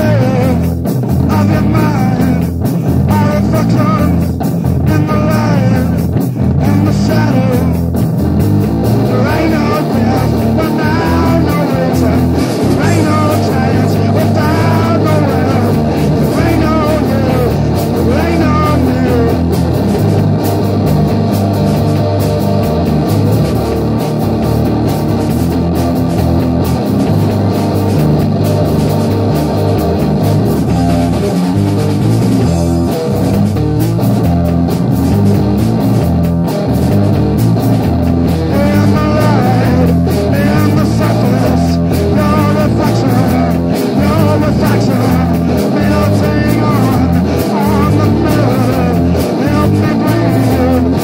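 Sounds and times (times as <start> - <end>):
guitar-led rock music: 0.0 - 51.0.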